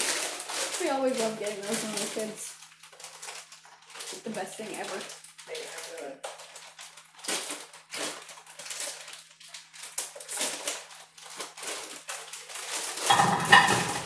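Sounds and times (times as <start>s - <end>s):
butter crackling in a frying pan: 0.0s - 14.0s.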